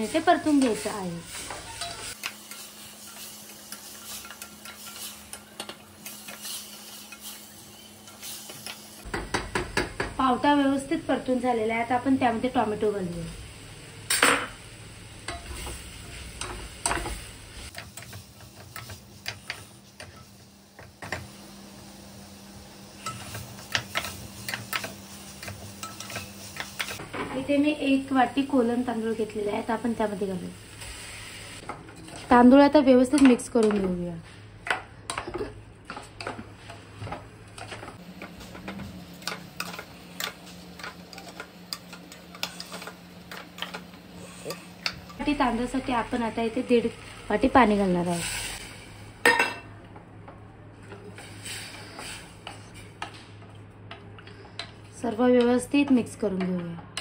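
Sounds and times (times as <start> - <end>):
low sizzle of frying: 0.0 - 57.0.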